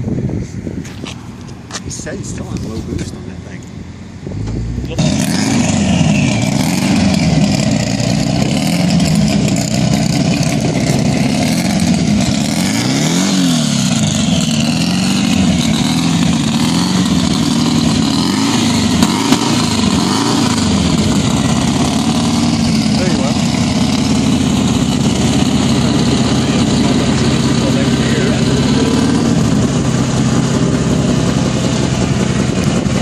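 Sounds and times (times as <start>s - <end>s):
drag car engine revving: 2.0s - 33.0s.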